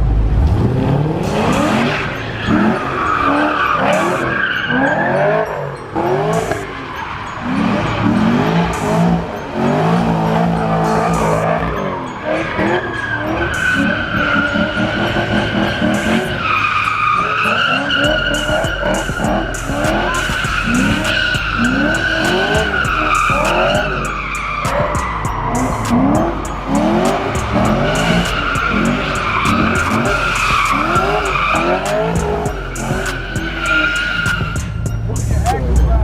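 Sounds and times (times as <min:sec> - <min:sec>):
car engine revving: 0:00.0 - 0:36.0
tyres squealing: 0:01.5 - 0:36.0.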